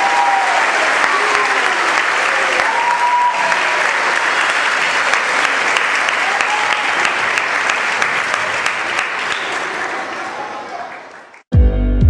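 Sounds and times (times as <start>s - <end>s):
audience clapping: 0.0s - 11.5s.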